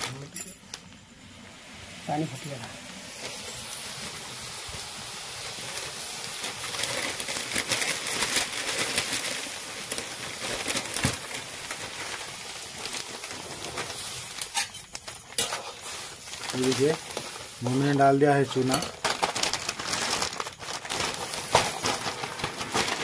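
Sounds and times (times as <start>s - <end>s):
water boiling: 0.0s - 23.0s
wood fire crackling: 0.0s - 23.0s.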